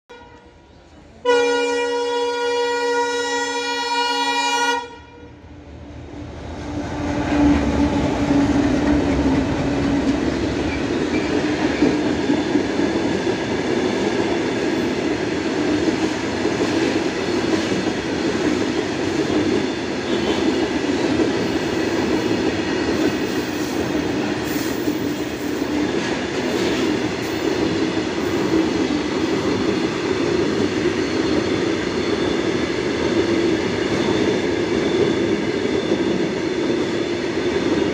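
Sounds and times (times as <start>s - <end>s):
freight train wheels on rails: 0.1s - 37.9s.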